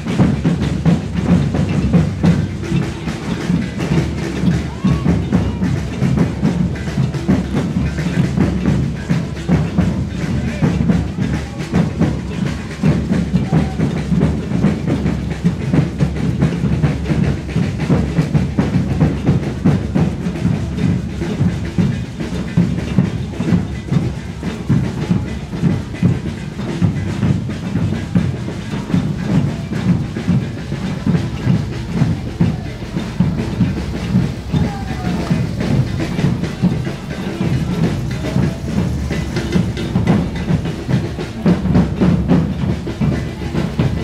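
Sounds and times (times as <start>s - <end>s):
deep bass drums: 0.0s - 44.0s
percussion ensemble drumming: 0.0s - 44.0s.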